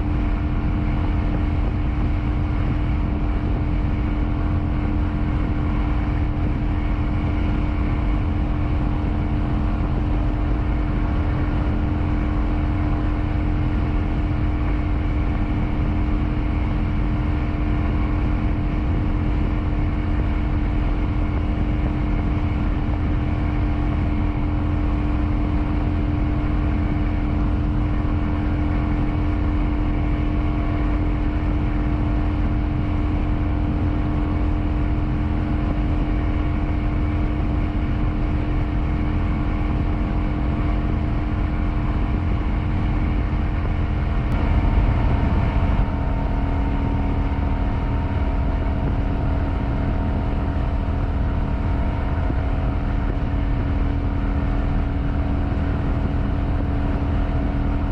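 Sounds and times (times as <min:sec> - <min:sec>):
motorcycle engine running: 0:00.0 - 0:57.9
wind and road rush: 0:00.0 - 0:57.9.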